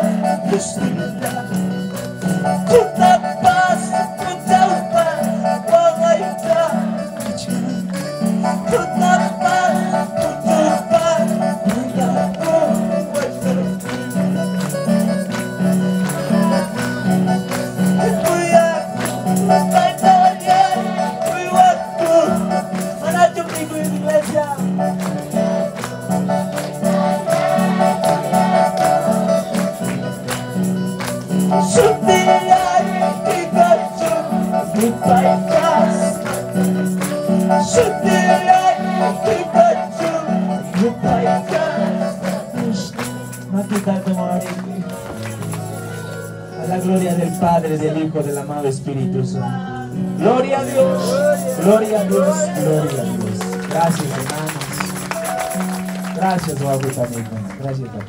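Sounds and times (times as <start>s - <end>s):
congregation clapping along: 0.0s - 47.4s, 50.6s - 58.0s
tambourine: 0.0s - 49.1s, 49.7s - 57.5s
worship band music: 0.0s - 58.0s.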